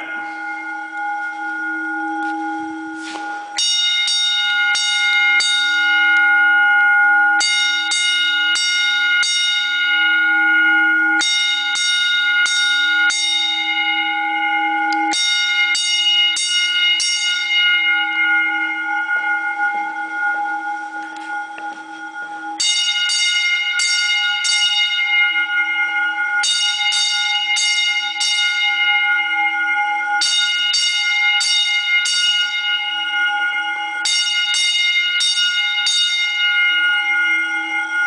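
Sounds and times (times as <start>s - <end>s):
electric fire alarm bells ringing: 0.0s - 38.0s.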